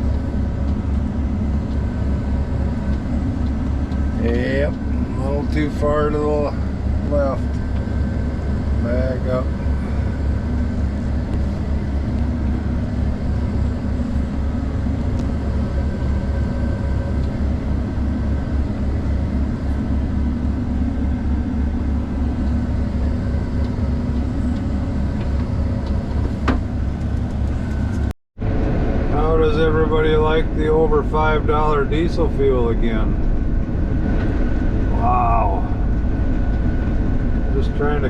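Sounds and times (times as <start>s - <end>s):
diesel engine drone: 0.0s - 38.0s.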